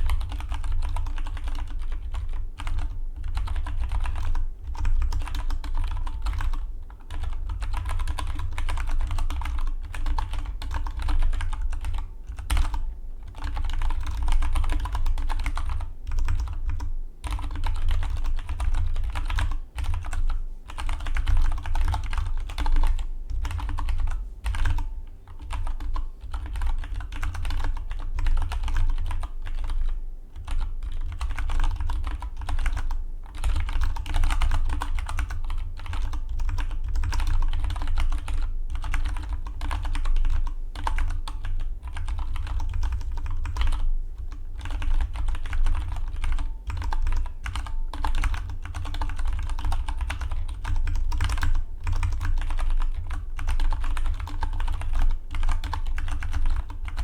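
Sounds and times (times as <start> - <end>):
mechanical keyboard typing: 0.0 - 57.0
steady low hum: 0.0 - 57.0.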